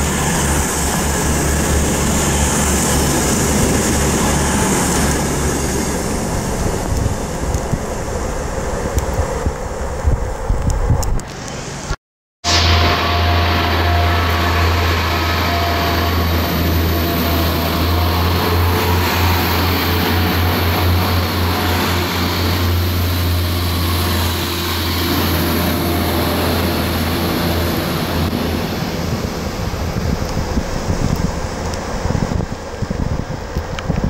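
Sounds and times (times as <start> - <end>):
diesel train engine drone: 0.0 - 34.0
rail noise: 0.0 - 34.0.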